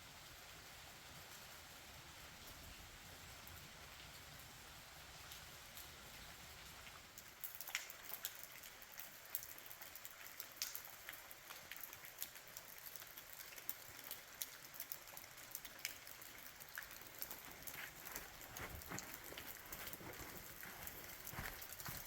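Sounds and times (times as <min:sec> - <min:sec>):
light rain hiss: 0:00.0 - 0:22.0
raindrops striking surfaces: 0:00.0 - 0:22.0.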